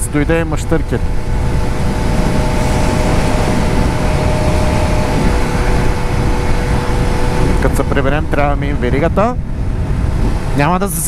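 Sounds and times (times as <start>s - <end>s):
motorcycle engine hum: 0.0s - 11.0s
wind noise on microphone: 0.0s - 11.0s.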